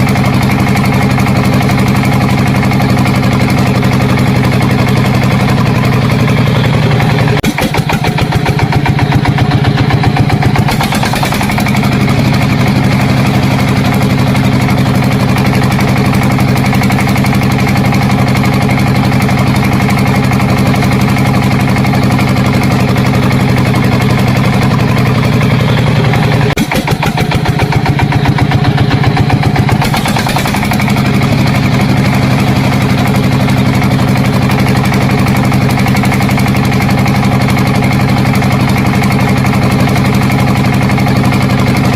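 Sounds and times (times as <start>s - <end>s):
engine chugging: 0.0s - 41.9s.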